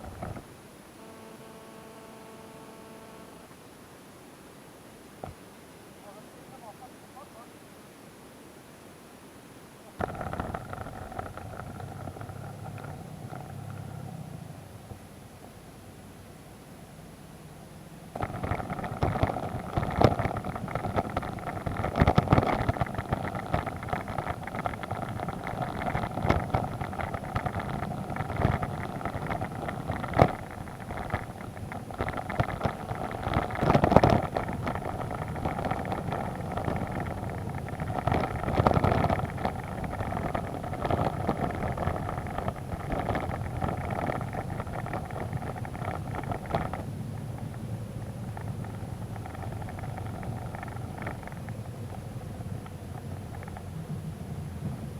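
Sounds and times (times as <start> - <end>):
vehicle engine running: 0.0 - 3.5, 10.0 - 54.9.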